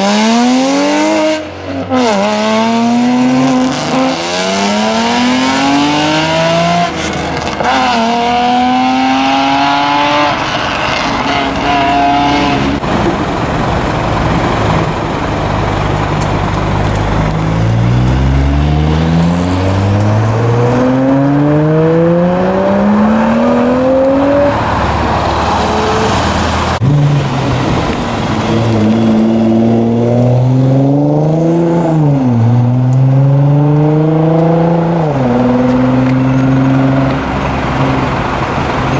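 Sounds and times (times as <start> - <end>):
loud car exhausts accelerating: 0.0 - 38.9.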